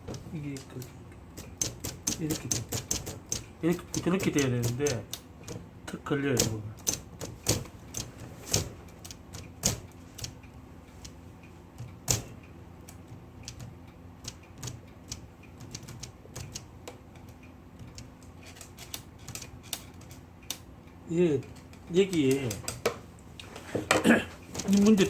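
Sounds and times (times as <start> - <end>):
typewriter mechanism clicking: 0.1 - 5.6, 6.2 - 10.4, 11.8 - 20.6, 21.5 - 22.9.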